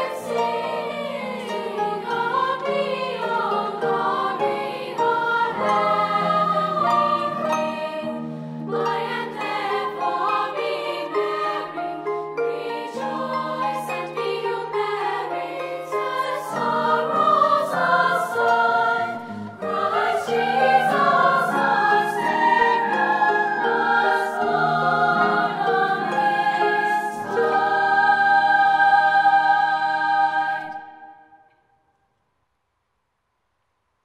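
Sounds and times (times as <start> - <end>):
choir singing a carol: 0.0 - 31.6.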